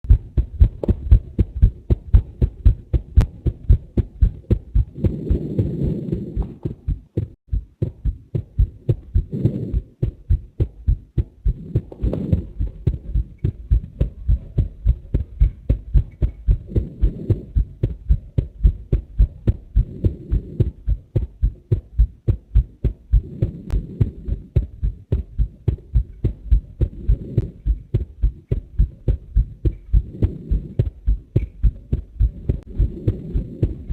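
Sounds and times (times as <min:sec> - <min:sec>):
heartbeat thumps: 0:00.0 - 0:33.9.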